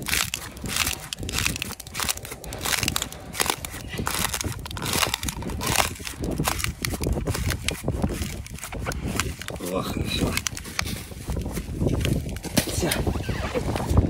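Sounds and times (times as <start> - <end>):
ice screw twisting into ice: 0.0 - 12.7
ice crunching and crackling: 0.0 - 14.0.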